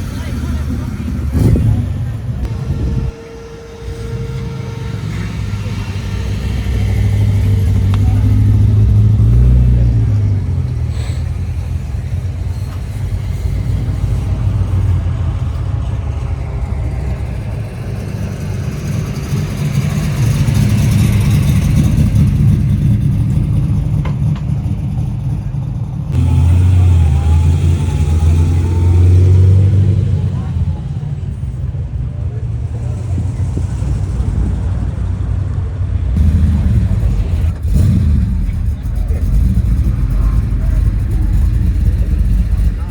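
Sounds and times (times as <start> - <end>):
car engines rumbling and revving: 0.0 - 42.9.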